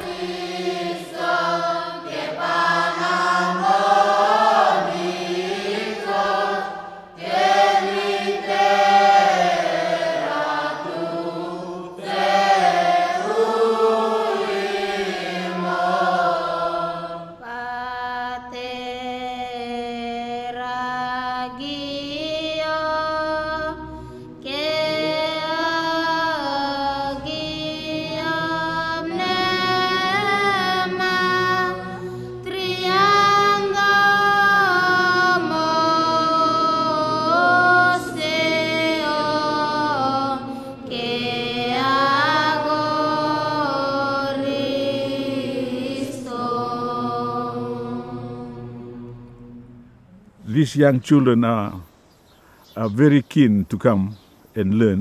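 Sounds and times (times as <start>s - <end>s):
children's choir chanting a hymn: 0.0s - 51.7s.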